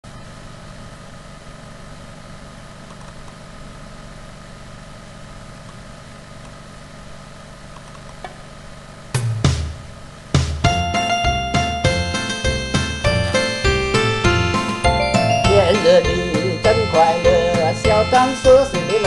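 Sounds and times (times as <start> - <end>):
steady low hum with hiss: 0.0 - 19.0.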